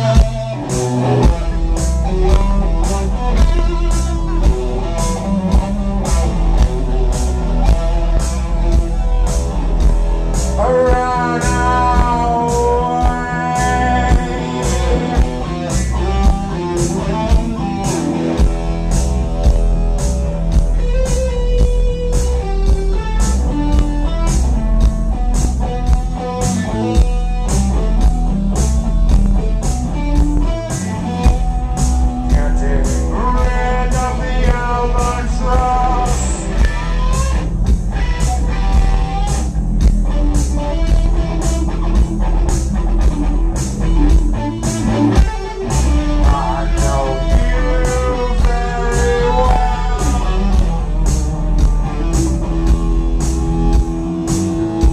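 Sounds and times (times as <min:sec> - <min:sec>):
bass guitar: 0:00.0 - 0:54.9
electric guitar: 0:00.0 - 0:54.9
steady drum beat: 0:00.0 - 0:54.9.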